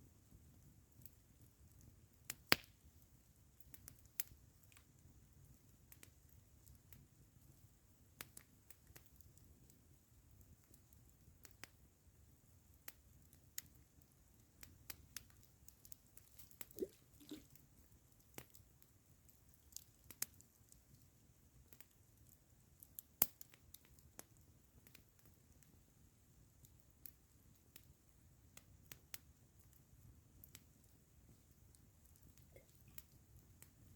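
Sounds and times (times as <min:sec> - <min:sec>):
campfire crackling: 0:00.0 - 0:33.9.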